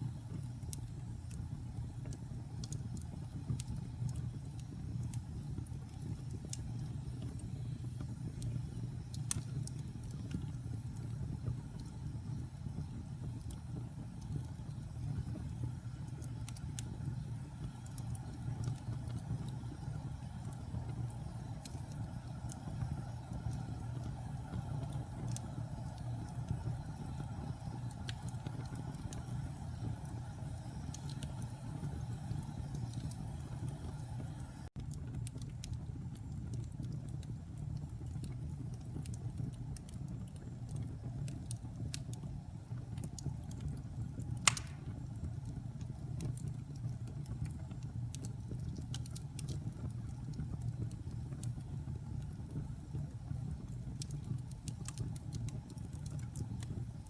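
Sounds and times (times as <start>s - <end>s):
fireplace fire roaring and crackling: 0.0s - 57.0s.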